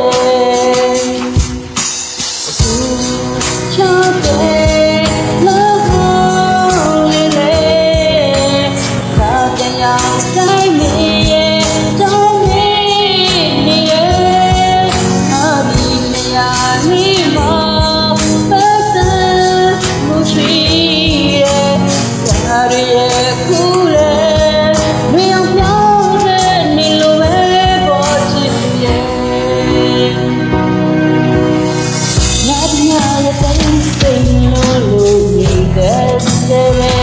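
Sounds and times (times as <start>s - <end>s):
woman singing with vibrato: 0.0s - 1.8s, 2.5s - 31.3s, 32.2s - 37.0s
karaoke backing track: 0.0s - 37.0s.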